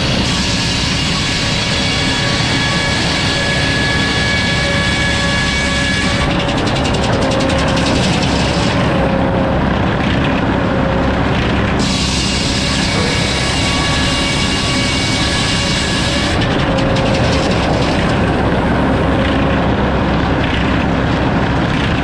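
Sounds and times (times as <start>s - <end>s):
sawmill machine hum: 0.0s - 22.0s.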